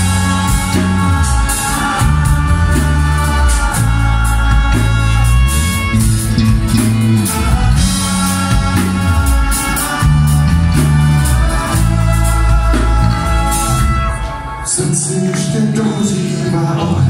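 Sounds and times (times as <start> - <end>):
steady drum beats: 0.0 - 16.2
sustained accordion chords: 0.0 - 16.7
electric and acoustic guitars: 0.0 - 17.0
walking bass line on bass guitar: 0.0 - 17.0.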